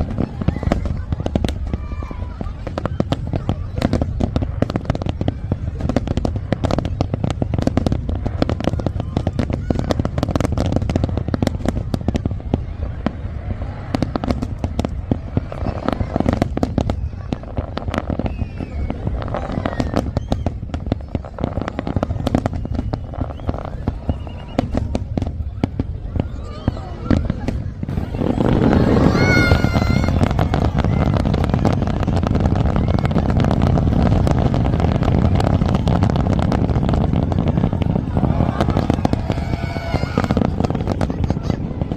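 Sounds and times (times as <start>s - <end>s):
continuous low rumble: 0.0s - 41.9s
fireworks bangs: 0.0s - 41.9s.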